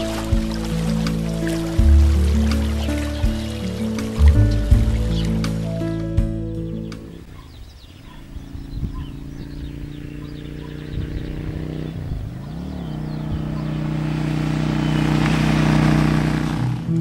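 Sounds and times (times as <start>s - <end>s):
motorcycle engine approaching: 0.0s - 17.0s.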